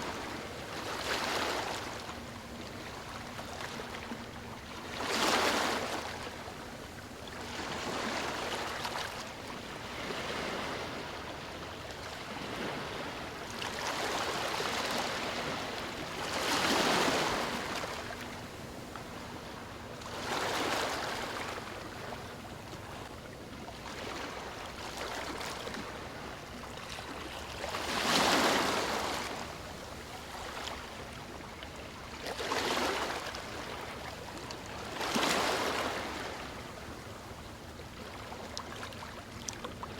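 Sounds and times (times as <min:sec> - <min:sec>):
ocean waves lapping on shore: 0:00.0 - 0:39.9.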